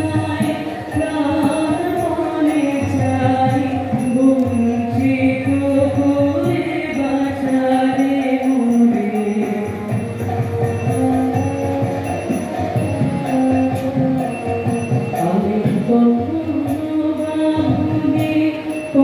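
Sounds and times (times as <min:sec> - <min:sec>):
hand cymbals ringing: 0:00.0 - 0:19.0
harmonium: 0:00.0 - 0:19.0
tabla: 0:00.0 - 0:19.0.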